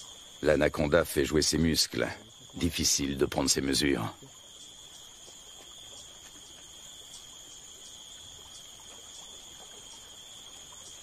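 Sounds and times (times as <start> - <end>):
faint outdoor hiss: 0.0 - 11.0
high-pitched insect trilling: 0.0 - 11.0.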